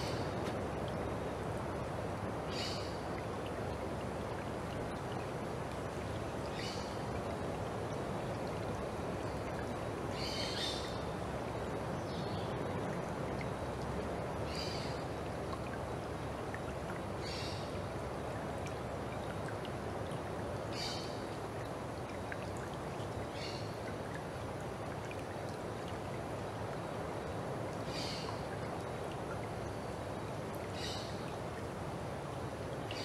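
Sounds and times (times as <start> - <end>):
stream flowing over stones: 0.0 - 33.0.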